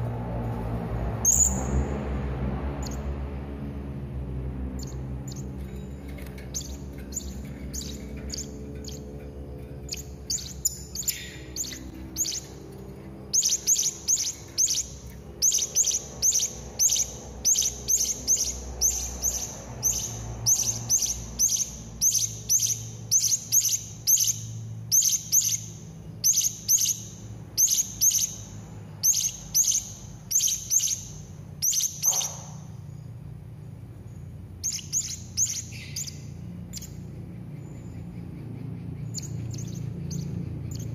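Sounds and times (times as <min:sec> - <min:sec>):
low steady hum: 0:00.0 - 0:40.9
parrot chirping: 0:01.2 - 0:01.7, 0:04.8 - 0:05.8, 0:06.5 - 0:32.8, 0:34.6 - 0:38.0, 0:39.0 - 0:40.9.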